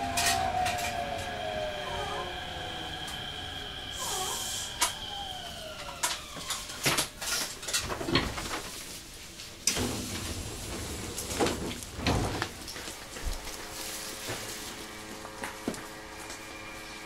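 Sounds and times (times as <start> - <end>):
train carriage rumble: 0.0 - 17.0.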